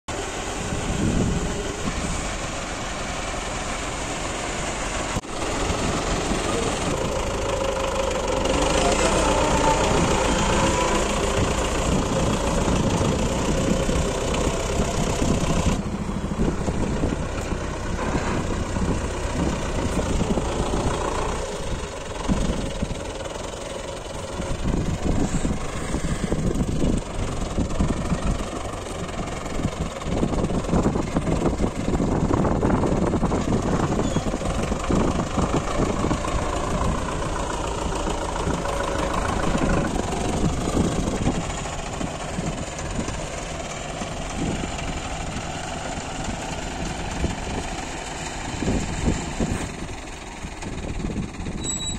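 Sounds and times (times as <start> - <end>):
tractor diesel engine running: 0.1 - 51.9.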